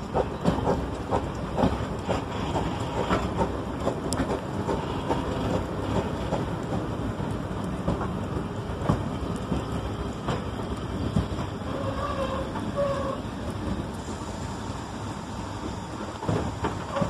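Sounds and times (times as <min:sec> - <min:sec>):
wheels clattering on track: 0:00.0 - 0:14.0, 0:15.6 - 0:17.0
train carriage rumble: 0:00.0 - 0:17.0.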